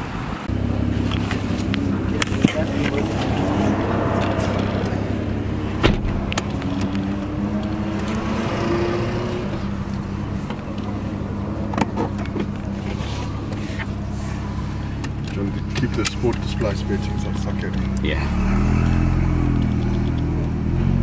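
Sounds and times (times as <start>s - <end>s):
car engine at low revs: 0.5s - 21.0s.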